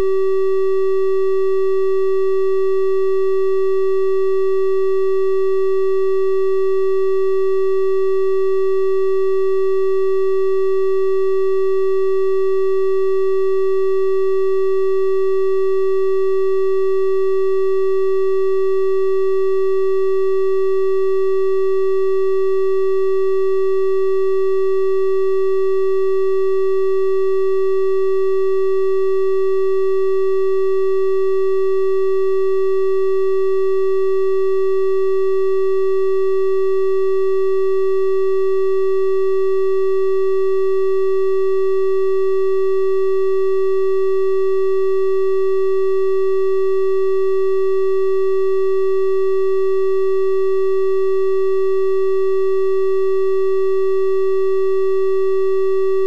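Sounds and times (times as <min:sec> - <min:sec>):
steady triangle-wave test tone: 0:00.0 - 0:56.0.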